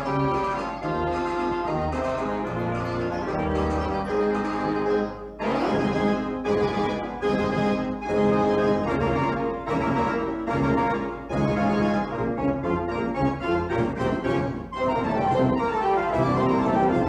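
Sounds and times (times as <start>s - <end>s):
keyboard chords music: 0.0s - 17.0s.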